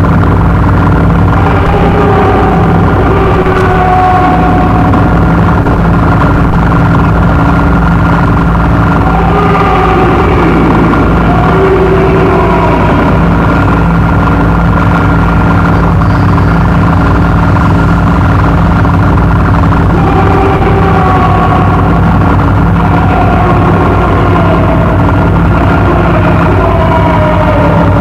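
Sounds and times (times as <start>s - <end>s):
dense droning noise wall: 0.0s - 28.0s
steady low hum: 0.0s - 28.0s.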